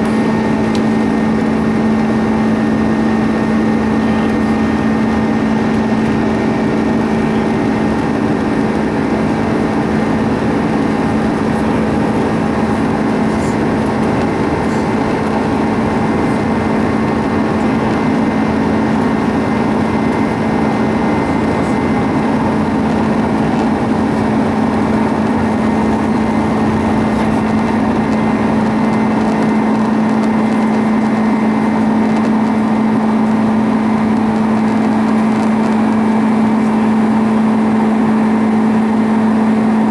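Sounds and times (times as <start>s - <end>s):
jet engines droning in cabin: 0.0s - 39.9s.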